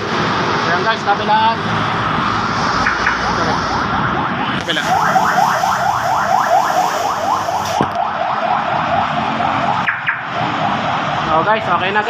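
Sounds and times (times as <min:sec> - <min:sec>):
car alarm siren whooping: 0:02.0 - 0:12.0.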